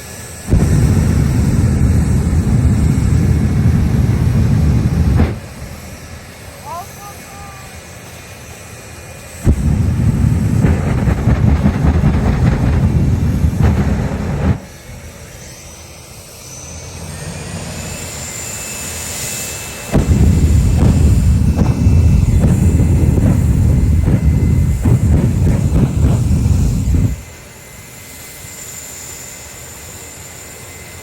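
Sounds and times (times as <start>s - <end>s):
high turbine whine: 0.0s - 31.0s
jet engine roaring: 0.0s - 31.0s.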